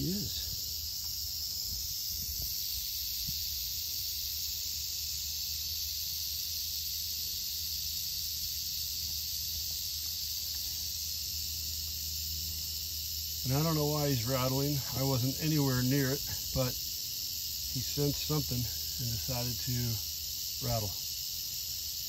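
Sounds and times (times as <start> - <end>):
rattlesnake rattling: 0.0 - 22.0.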